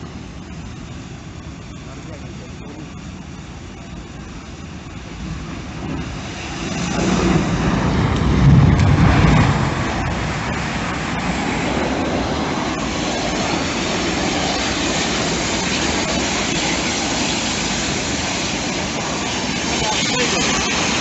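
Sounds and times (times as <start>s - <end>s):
explosion rumble: 0.0s - 21.0s
steady roar of noise: 0.0s - 21.0s.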